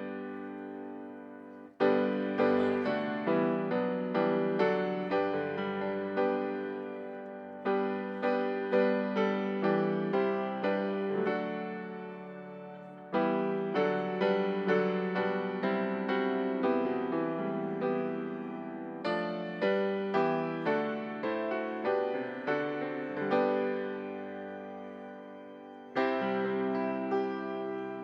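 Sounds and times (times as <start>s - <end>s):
slow gentle piano piece: 0.0s - 28.0s.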